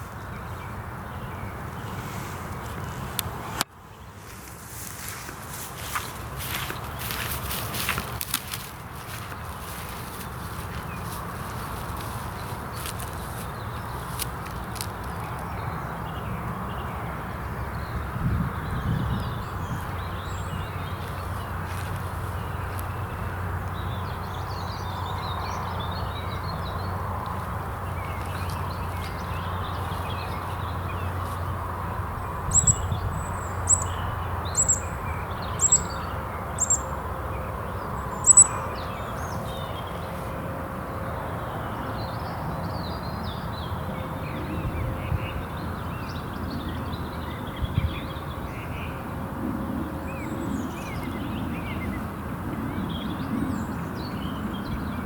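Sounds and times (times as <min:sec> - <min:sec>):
birdsong: 0:00.0 - 0:55.0
low rumble of wind: 0:00.0 - 0:55.0.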